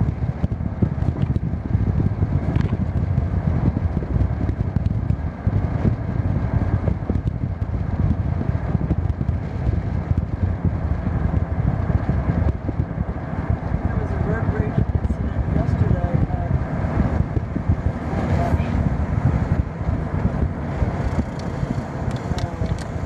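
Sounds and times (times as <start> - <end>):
engine and tyre rumble: 0.0 - 23.0
wind noise: 0.0 - 23.0.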